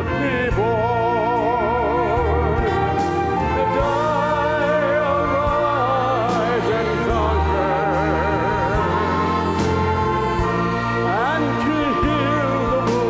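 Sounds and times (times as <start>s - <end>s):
man singing into a microphone: 0.0s - 9.2s, 11.1s - 13.0s
sustained instrumental accompaniment: 0.0s - 13.0s.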